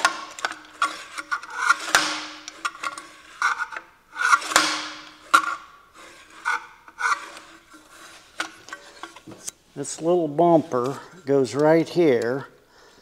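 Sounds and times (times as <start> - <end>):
metal scraping on metal: 0.0 - 11.4.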